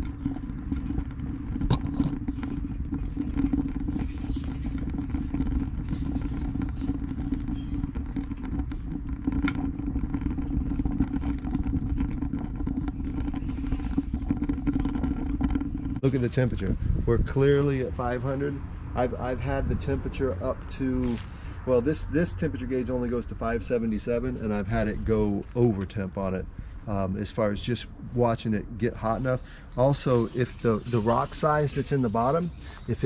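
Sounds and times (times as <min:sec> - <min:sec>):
burner rumbling: 0:00.0 - 0:33.0
burning pellets crackling: 0:00.0 - 0:33.0.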